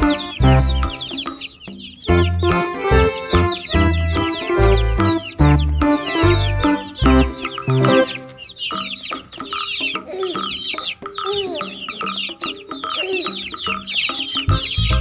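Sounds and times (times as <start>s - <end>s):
background music: 0.0s - 15.0s
chickens clucking: 0.0s - 15.0s.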